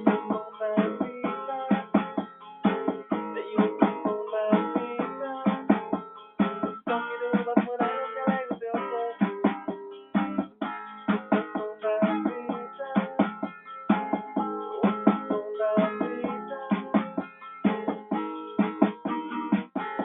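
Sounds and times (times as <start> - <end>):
plucked string instrument: 0.0 - 20.0.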